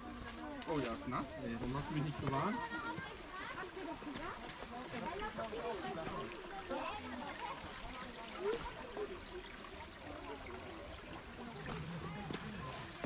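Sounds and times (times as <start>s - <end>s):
faint voices talking: 0.0s - 13.0s.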